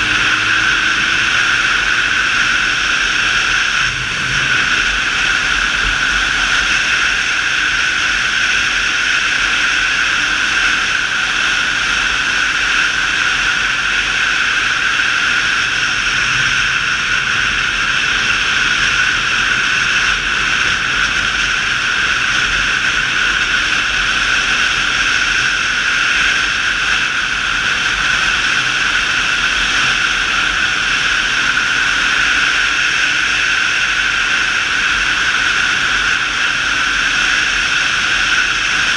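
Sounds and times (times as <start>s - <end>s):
motorcycle engine cruising: 0.0s - 38.9s
road noise: 0.0s - 38.9s
wind rushing on microphone: 0.0s - 38.9s.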